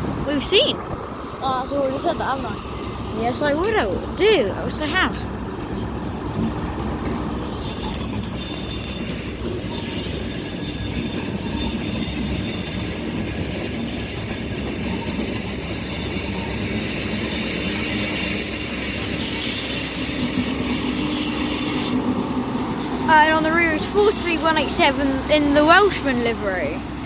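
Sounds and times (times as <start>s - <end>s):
diesel train rumbling past: 0.0s - 27.0s
high-pitched train whine: 0.0s - 27.0s.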